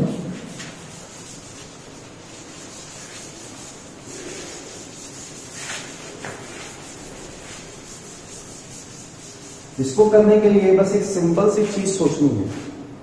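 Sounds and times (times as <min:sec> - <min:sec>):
cloth rubbing on chalkboard: 0:00.0 - 0:12.8.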